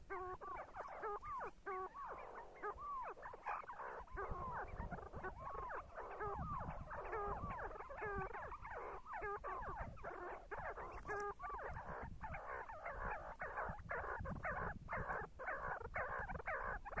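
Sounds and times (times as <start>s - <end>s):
partridges whistling calls: 0.0s - 17.0s.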